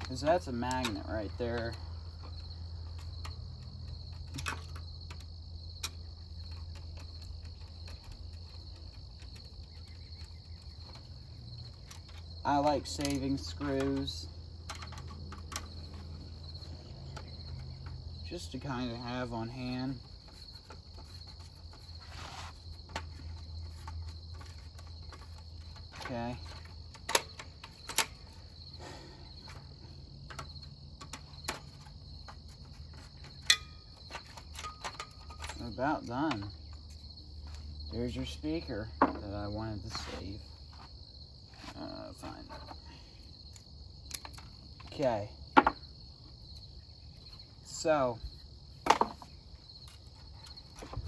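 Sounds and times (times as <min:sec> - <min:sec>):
cricket trill: 0:00.0 - 0:51.0.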